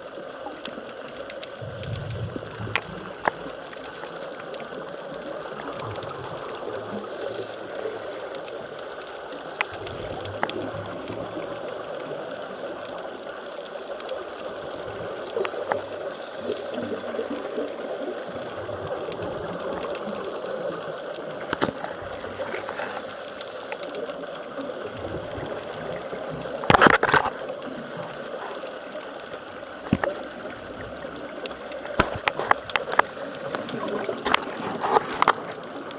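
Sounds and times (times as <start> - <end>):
faint bubbling: 0.0 - 35.9
underwater hiss: 1.5 - 12.8, 13.6 - 35.9.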